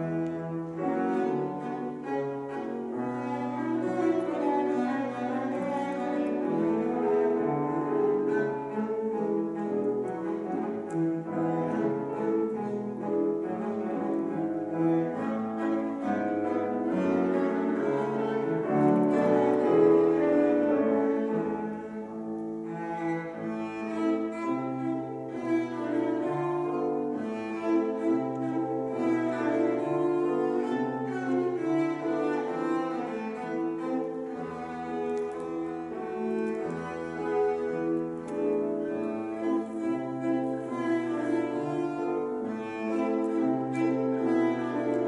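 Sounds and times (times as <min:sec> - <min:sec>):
cello melody: 0:00.0 - 0:45.0
piano accompaniment: 0:00.0 - 0:45.0.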